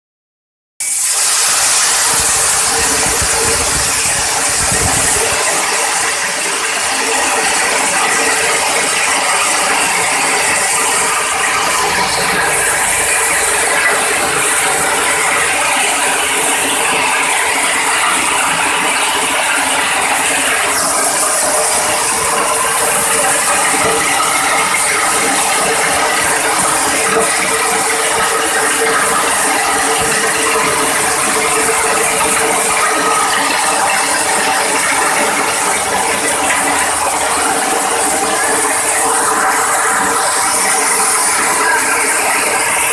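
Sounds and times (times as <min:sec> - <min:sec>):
steady hum: 0:00.9 - 0:42.9.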